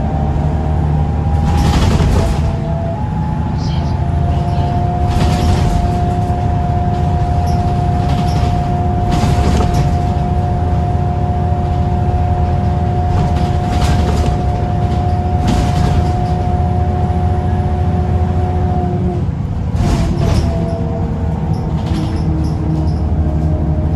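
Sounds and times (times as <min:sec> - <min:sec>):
bus diesel engine drone: 0:00.0 - 0:23.9
rattles and knocks: 0:00.1 - 0:02.9, 0:04.1 - 0:18.5, 0:19.1 - 0:23.9.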